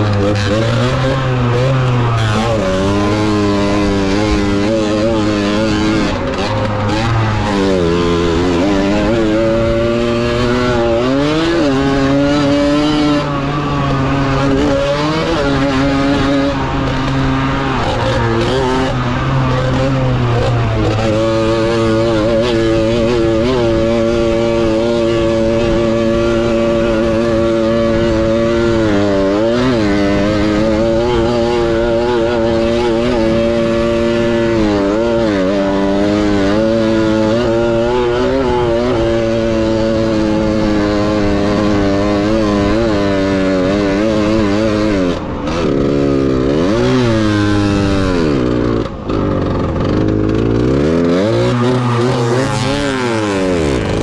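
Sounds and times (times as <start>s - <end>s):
moped engine revving: 0.0s - 54.0s.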